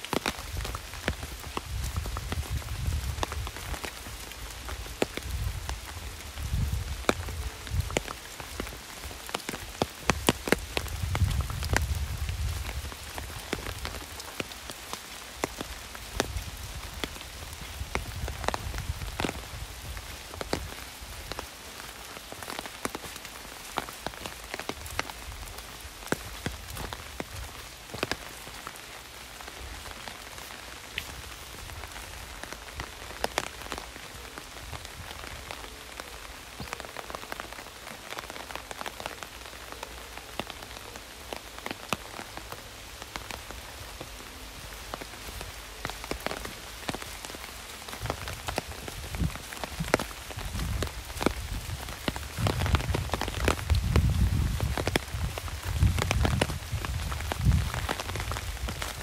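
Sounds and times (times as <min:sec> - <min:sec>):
heavy rain: 0:00.0 - 0:59.0
raindrops tapping on umbrella: 0:00.0 - 0:59.0.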